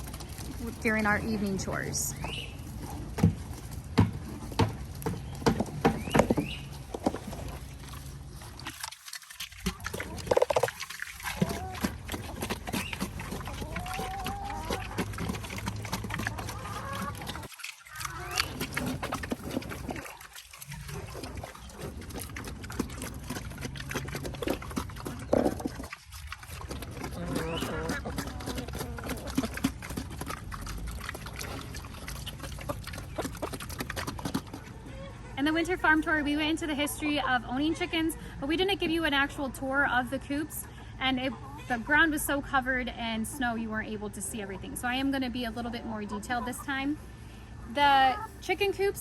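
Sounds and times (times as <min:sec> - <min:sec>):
pigs chomping wet feed: 0:00.0 - 0:49.0.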